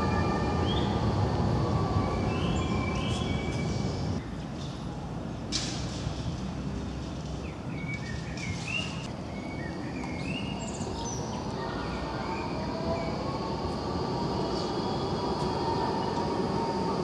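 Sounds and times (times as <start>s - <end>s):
small birds chirping: 0.0s - 4.6s, 7.4s - 16.9s
low street rumble: 0.0s - 17.0s.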